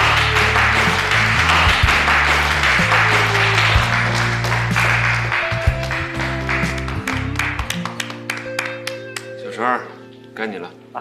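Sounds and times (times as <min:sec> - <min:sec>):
people applauding: 0:00.0 - 0:09.4
background music with low notes: 0:00.0 - 0:11.0.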